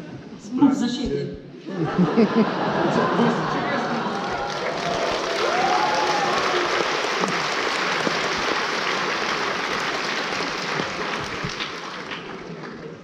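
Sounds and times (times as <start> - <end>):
audience applauding: 2.5 - 13.0.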